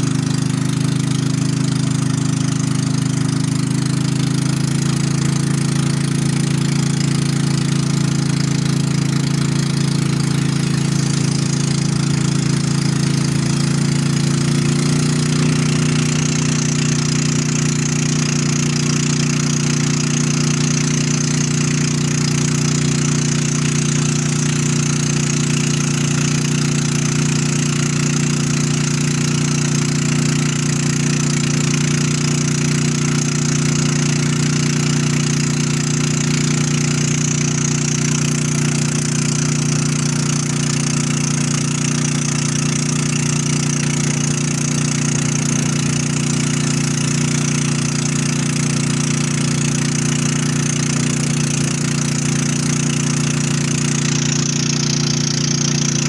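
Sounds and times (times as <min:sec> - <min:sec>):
motorboat engine running: 0:00.0 - 0:56.0
water rushing along hull: 0:00.0 - 0:56.0.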